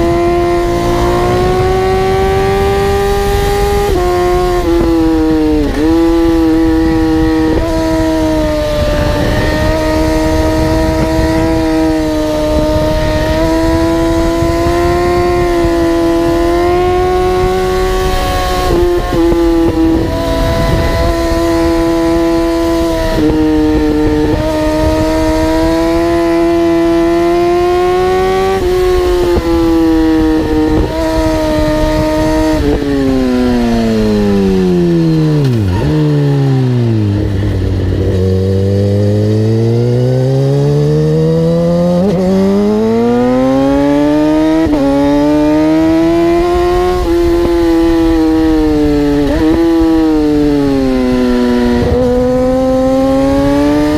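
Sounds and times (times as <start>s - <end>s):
high-revving engine shifting gears: 0.0s - 53.9s.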